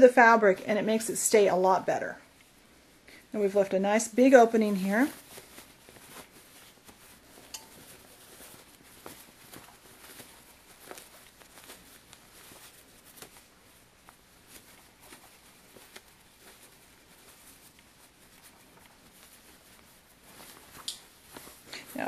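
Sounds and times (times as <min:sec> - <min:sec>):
cotton fabric rustling: 0:00.0 - 0:22.0.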